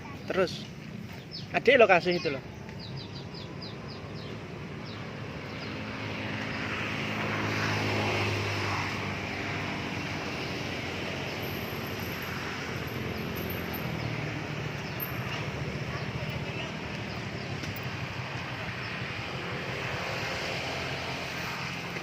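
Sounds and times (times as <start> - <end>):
vehicle engine passing by: 3.1 - 22.0.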